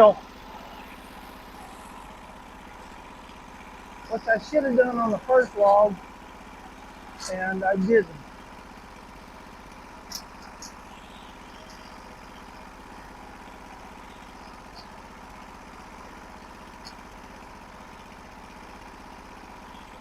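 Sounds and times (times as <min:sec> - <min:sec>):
sawmill engine idling: 0:00.0 - 0:20.0.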